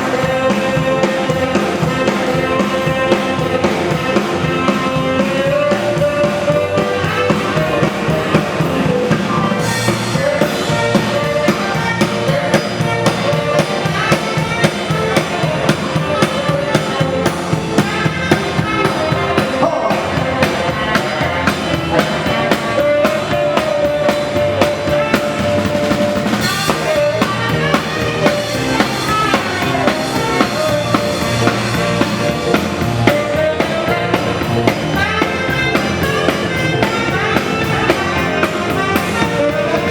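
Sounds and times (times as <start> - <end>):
drum kit beat: 0.0 - 39.9
held melody line: 0.0 - 39.9.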